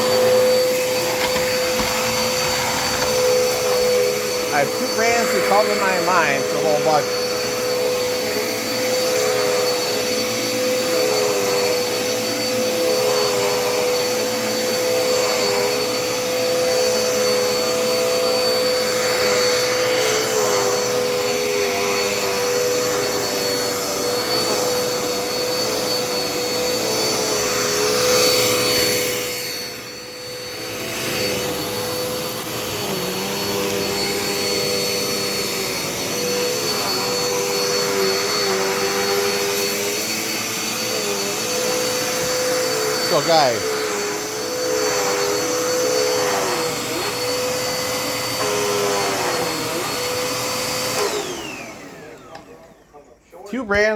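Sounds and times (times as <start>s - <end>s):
upright vacuum cleaner running: 0.0s - 53.9s.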